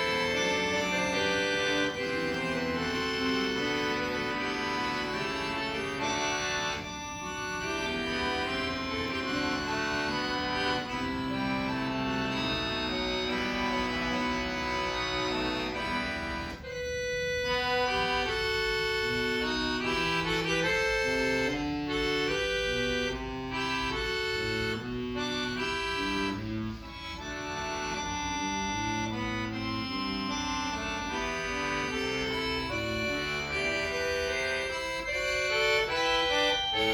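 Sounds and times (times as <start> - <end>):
solo accordion playing: 0.0 - 36.9.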